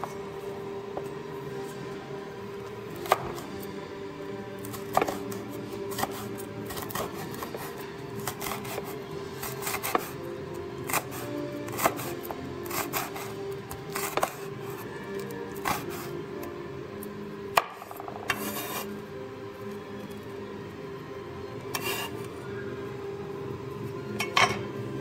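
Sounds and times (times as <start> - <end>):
soft background music: 0.0 - 25.0.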